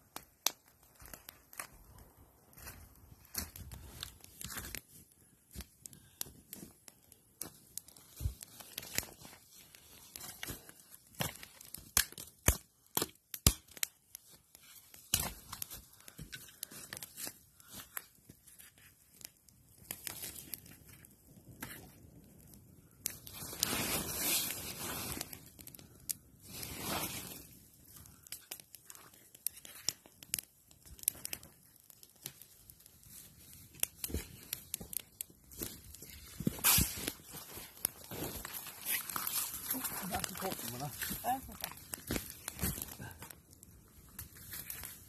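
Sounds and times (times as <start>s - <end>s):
campfire crackling and snapping: 0.0s - 45.0s
twigs and dry leaves rustling: 0.0s - 45.0s.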